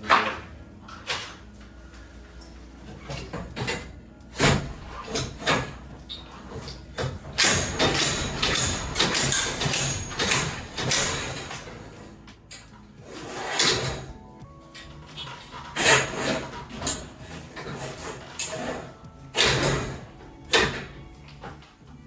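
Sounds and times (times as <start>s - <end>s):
metal knocks and clanks: 0.0s - 22.0s.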